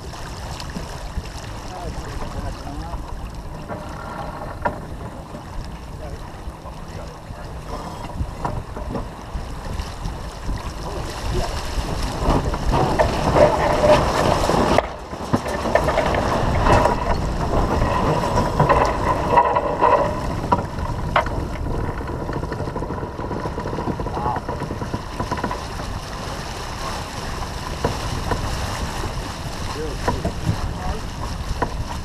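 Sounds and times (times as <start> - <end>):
sail flapping: 0.0 - 32.0
water rushing along hull: 0.0 - 32.0
wind buffeting microphone: 0.0 - 32.0.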